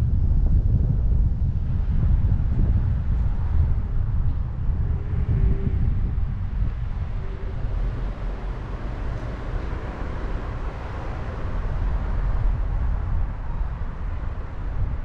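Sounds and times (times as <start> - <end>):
road and traffic noise: 0.0 - 15.0
wind rumble on microphone: 0.0 - 15.0.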